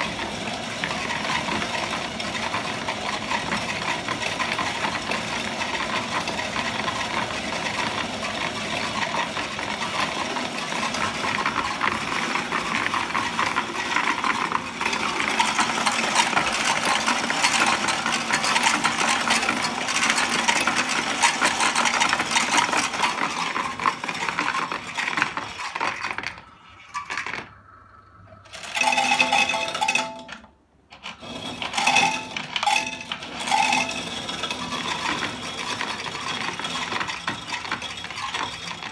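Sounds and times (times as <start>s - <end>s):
coin counting machine rattling: 0.0s - 27.8s, 28.4s - 38.9s.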